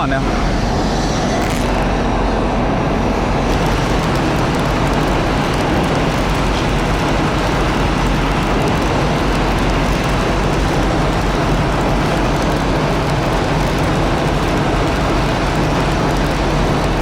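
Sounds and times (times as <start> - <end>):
heavy wind: 0.0 - 17.0.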